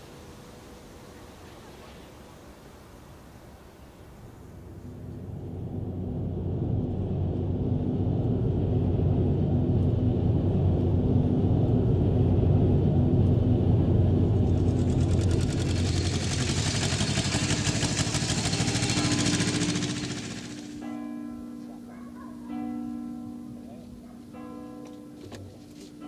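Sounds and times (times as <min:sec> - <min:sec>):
engine humming: 0:00.0 - 0:24.4.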